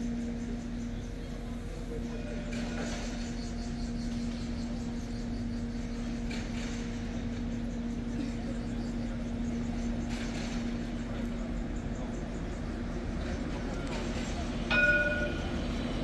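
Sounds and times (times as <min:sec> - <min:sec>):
tram electrical hum: 0:00.0 - 0:16.0.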